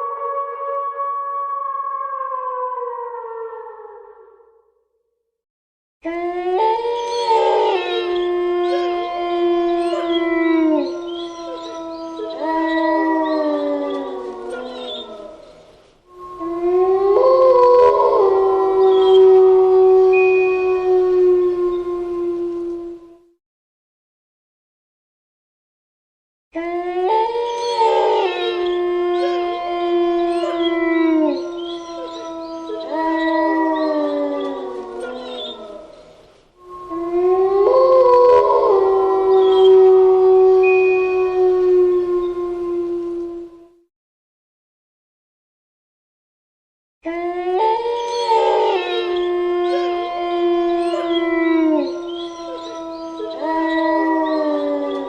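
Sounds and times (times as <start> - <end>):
wolves howling: 0.0 - 4.4, 6.0 - 23.3, 26.6 - 43.8, 47.0 - 55.0.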